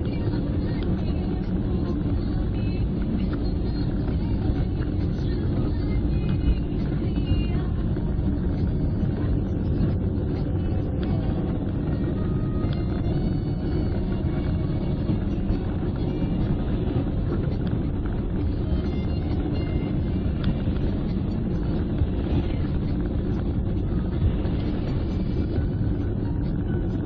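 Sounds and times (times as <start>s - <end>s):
car engine rumble: 0.0s - 27.0s
road noise: 0.0s - 27.0s.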